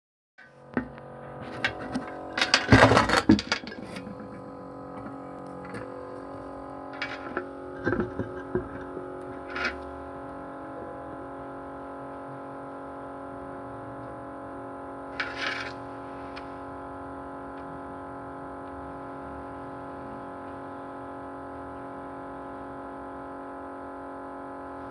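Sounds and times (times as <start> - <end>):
small motor buzzing: 0.6 - 13.2, 14.2 - 24.9.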